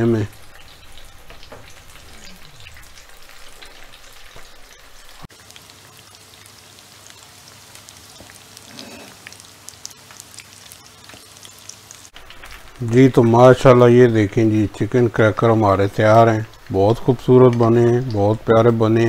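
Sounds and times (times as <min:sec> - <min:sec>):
oil crackling and sizzling: 0:00.0 - 0:19.0.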